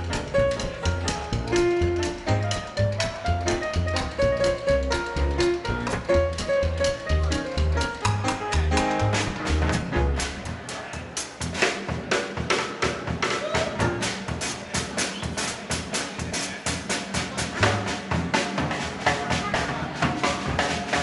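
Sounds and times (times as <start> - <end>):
drum kit beat: 0.0 - 21.0
swing band playing: 0.0 - 21.0.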